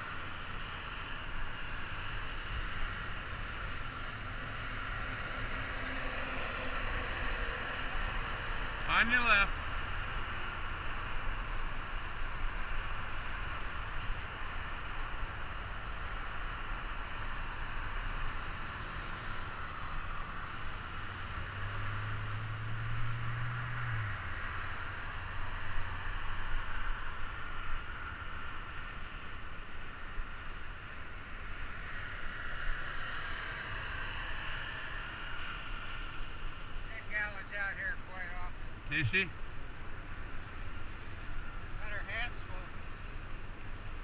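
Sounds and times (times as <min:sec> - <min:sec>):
road traffic rushing: 0:00.0 - 0:44.0.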